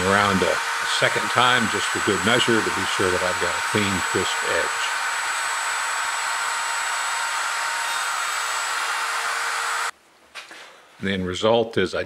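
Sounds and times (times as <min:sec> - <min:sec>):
router cutting wood: 0:00.0 - 0:09.9.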